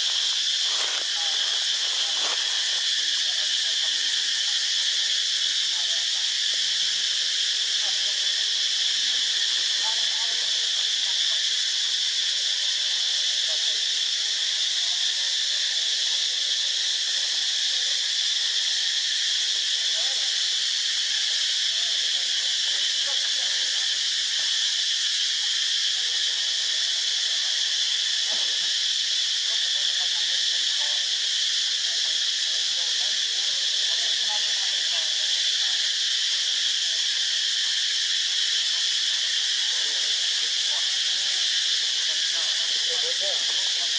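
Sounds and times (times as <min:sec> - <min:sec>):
insect chorus drone: 0:00.0 - 0:43.9.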